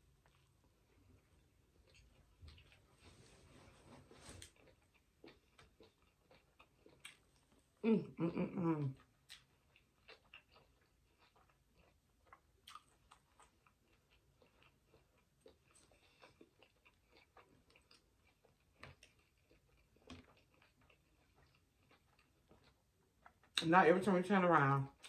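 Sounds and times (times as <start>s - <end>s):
faint chewing: 0.0s - 23.7s.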